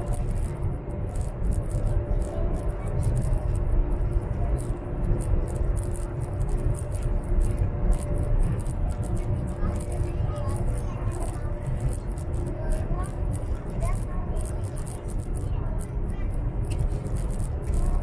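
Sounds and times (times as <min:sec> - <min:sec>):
faint steady hums: 0:00.0 - 0:18.0
train carriage rumble: 0:00.0 - 0:18.0.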